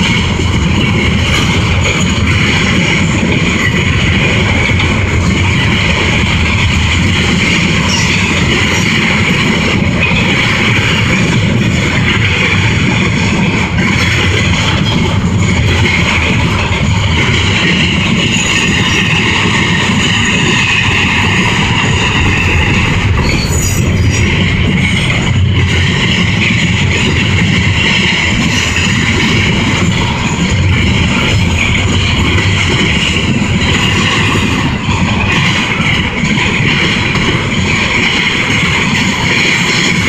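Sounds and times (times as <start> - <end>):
freight train rumbling: 0.0 - 40.0.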